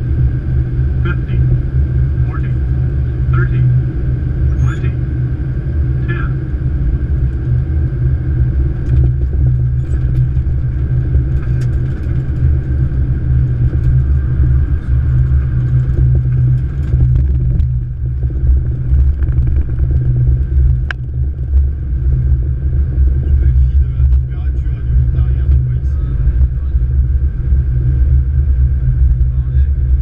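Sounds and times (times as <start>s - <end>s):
low rumble of wheels and airflow: 0.0s - 30.0s.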